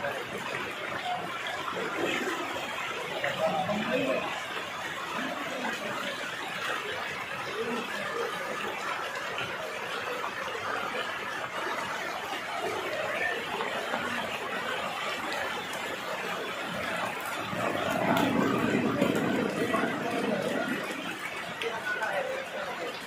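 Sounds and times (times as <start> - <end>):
faint indistinct voices: 0.0 - 23.0
floodwater rushing: 0.0 - 23.0.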